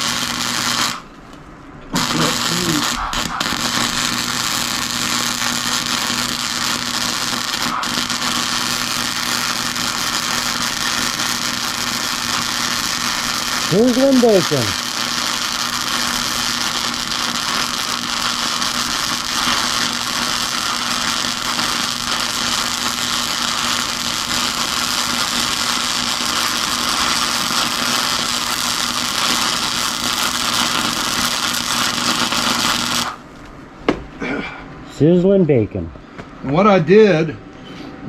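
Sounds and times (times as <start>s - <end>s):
welder arc crackling: 0.0s - 33.4s.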